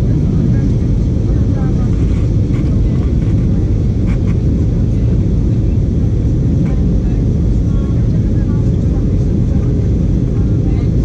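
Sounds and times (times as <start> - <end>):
faint passenger voices: 0.0 - 11.0
jet engine cabin rumble: 0.0 - 11.0.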